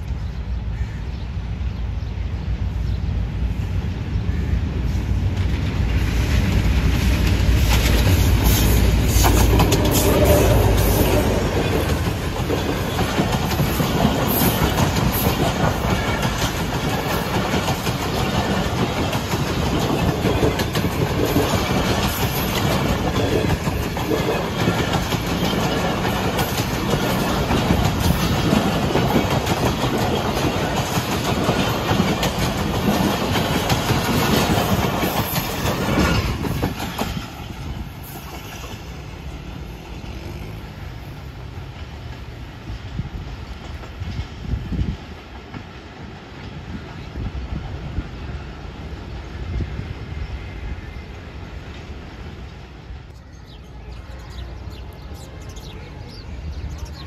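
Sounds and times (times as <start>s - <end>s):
deep train rumble: 0.0s - 57.0s
train wheels clattering on rails: 4.4s - 53.1s.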